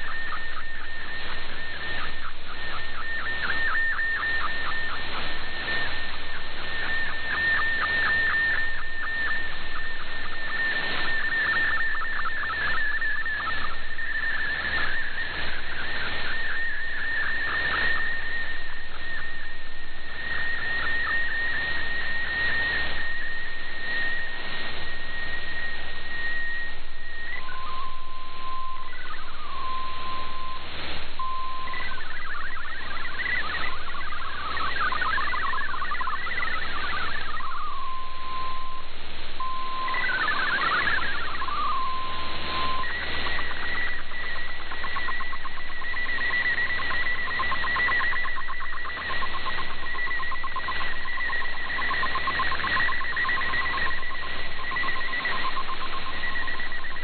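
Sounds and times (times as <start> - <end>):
rapidly hopping data tones: 0.0 - 57.0
steady whistle tone: 0.0 - 57.0.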